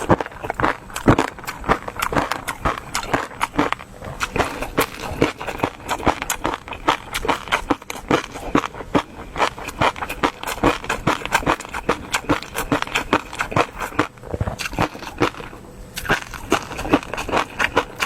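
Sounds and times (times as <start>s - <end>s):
chewing and mouth smacks: 0.0s - 18.0s.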